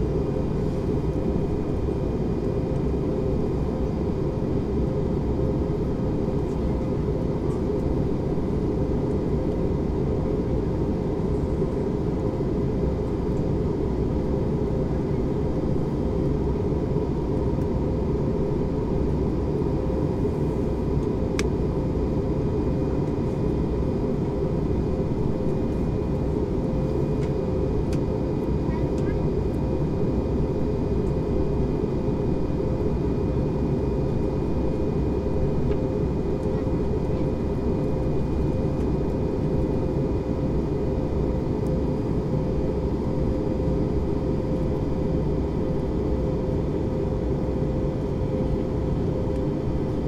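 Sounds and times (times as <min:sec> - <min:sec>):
aircraft cabin engine rush: 0:00.0 - 0:50.0.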